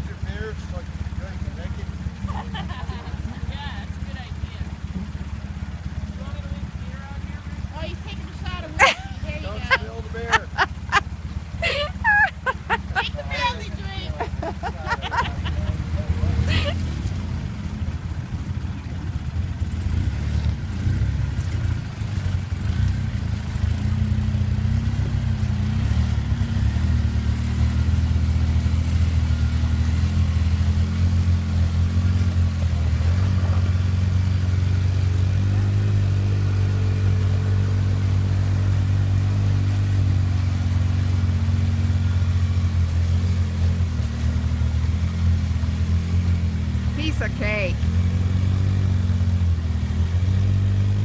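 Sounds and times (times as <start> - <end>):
vehicle engine under load: 0.0 - 51.0.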